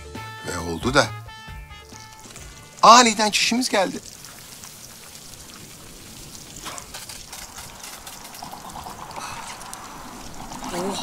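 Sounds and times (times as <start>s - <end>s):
urine splashing on ground: 1.7s - 11.0s.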